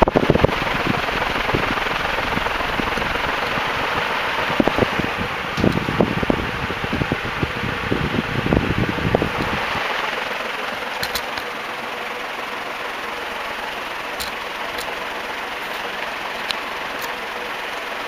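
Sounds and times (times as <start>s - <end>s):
ceiling fan air rush: 0.0s - 18.0s
faint motor hum: 0.0s - 18.0s.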